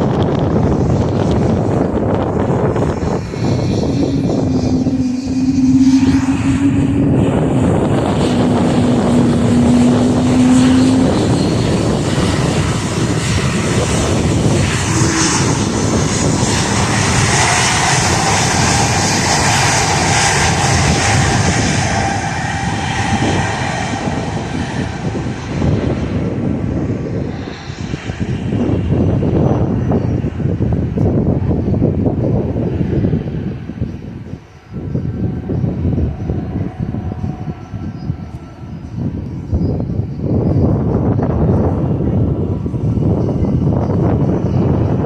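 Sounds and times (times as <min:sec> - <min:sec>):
jet airliner engines passing: 0:00.0 - 0:45.0.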